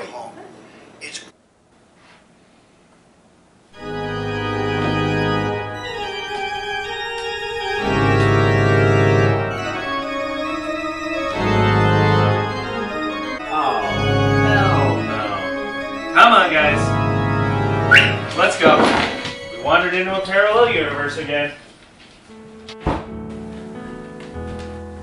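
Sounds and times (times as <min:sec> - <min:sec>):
organ chords: 0:03.7 - 0:25.0.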